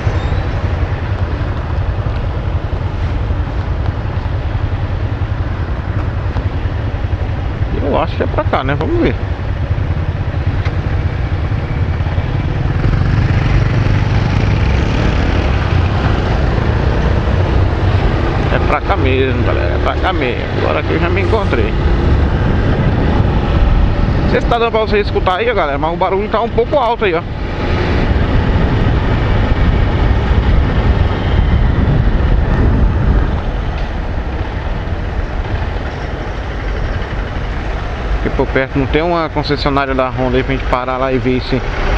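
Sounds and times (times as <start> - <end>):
motorcycle engine running: 0.0 - 41.9
wind rushing over microphone: 0.0 - 41.9.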